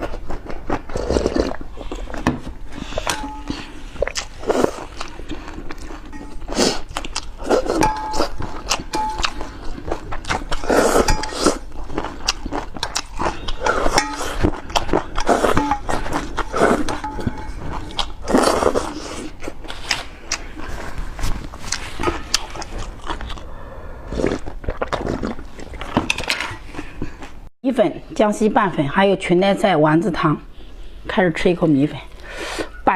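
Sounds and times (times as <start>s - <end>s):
chewing and slurping: 0.0s - 27.4s.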